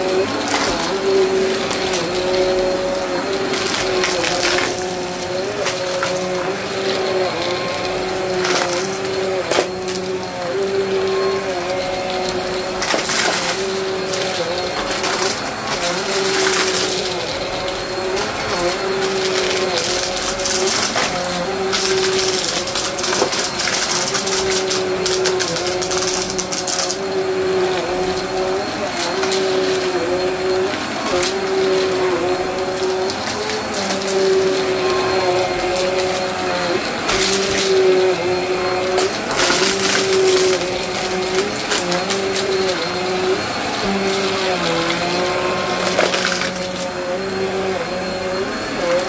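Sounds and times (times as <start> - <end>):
debris crunching in vacuum: 0.0 - 49.0
vacuum cleaner motor whine: 0.0 - 49.0.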